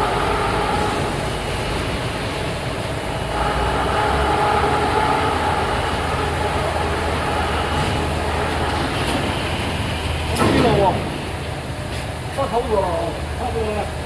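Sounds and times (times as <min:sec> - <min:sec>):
heavy engine deep hum: 0:00.0 - 0:14.0.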